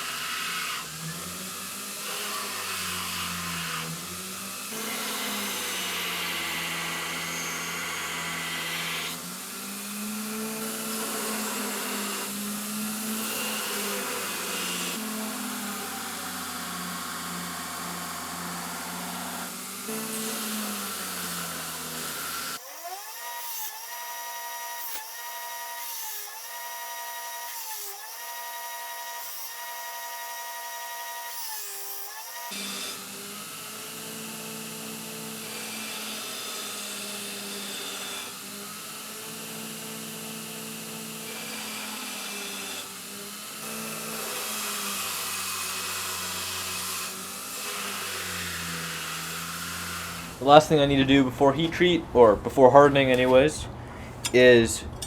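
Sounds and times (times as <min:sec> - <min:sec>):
belt grinder grinding metal: 0:00.0 - 0:51.8.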